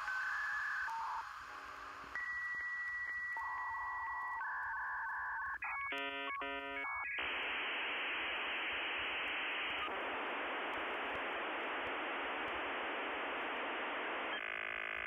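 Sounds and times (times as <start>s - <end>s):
telephone line static hiss: 0.0s - 15.0s.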